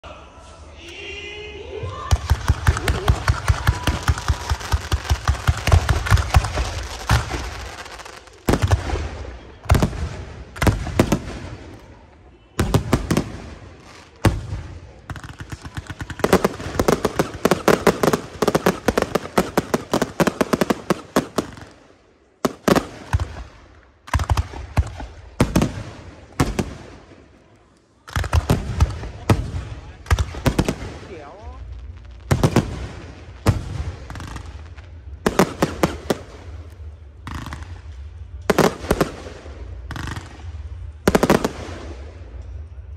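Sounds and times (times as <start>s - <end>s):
fireworks bangs and crackles: 1.8s - 42.9s.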